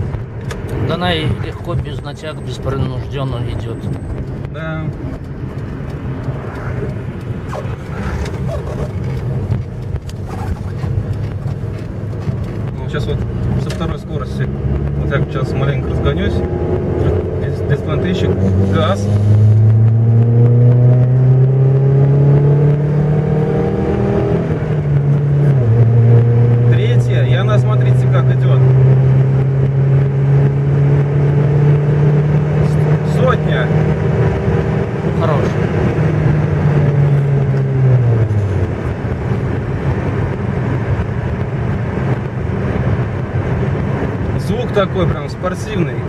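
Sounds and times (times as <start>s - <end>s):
car engine revving under full throttle: 0.0s - 46.0s
road and tyre noise: 0.0s - 46.0s.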